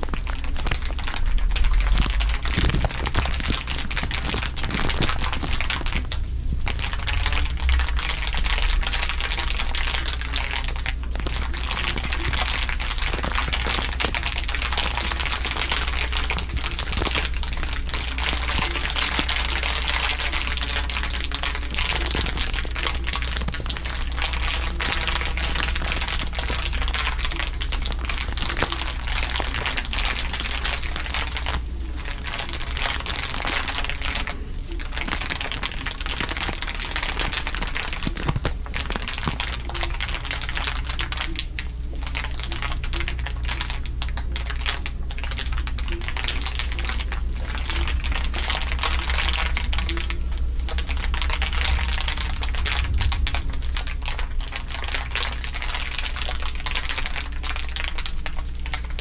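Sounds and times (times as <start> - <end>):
dense crackle of small clicks: 0.0 - 59.0
steady low hum: 0.0 - 59.0.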